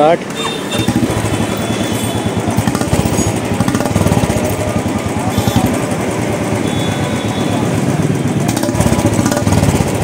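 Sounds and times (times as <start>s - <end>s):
motorcycle engine running: 0.6s - 10.0s.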